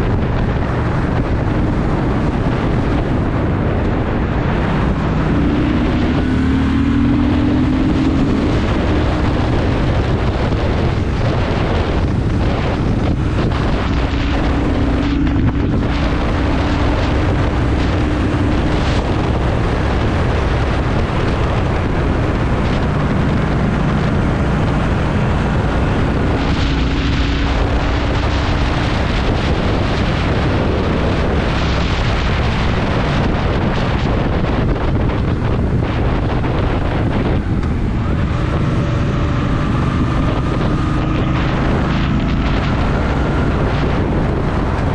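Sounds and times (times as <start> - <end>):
motorcycle engine running: 0.0 - 44.9
wind buffeting microphone: 0.0 - 44.9.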